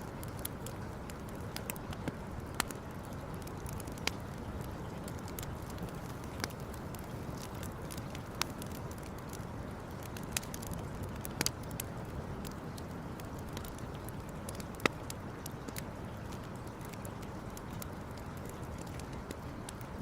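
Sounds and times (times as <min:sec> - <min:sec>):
campfire flame rushing: 0:00.0 - 0:20.0
fire crackling: 0:00.0 - 0:20.0
sharp pops from fire: 0:03.4 - 0:19.8.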